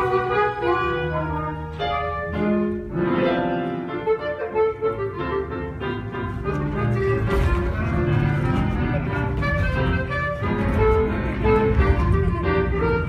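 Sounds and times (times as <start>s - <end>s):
orchestral accompaniment held notes: 0.0s - 13.0s.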